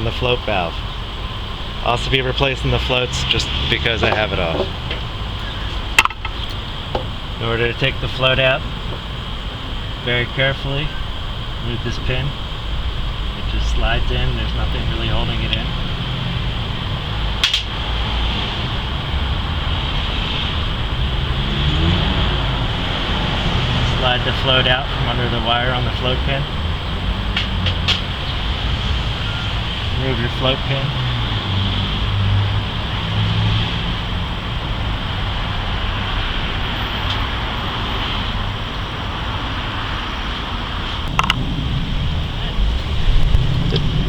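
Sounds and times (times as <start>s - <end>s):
background hum and hiss: 0.0s - 44.0s.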